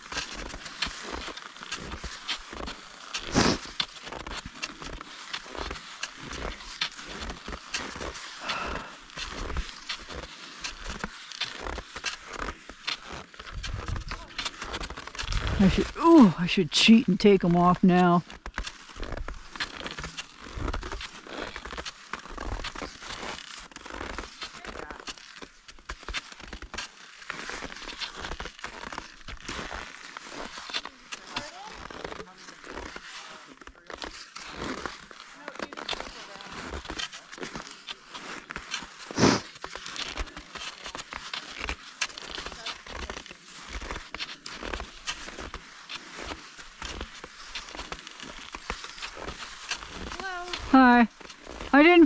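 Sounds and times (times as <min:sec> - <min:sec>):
skis crunching over snow: 0:00.0 - 0:52.0.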